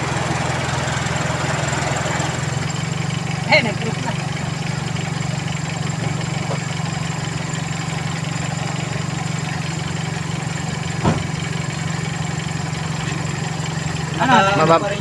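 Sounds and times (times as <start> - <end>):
short engine knock: 0.0 - 14.8
car engine idling: 0.0 - 15.0.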